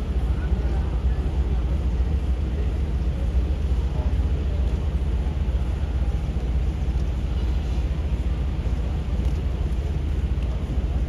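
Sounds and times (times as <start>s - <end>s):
faint street noise: 0.0s - 11.0s
low city rumble: 0.0s - 11.0s.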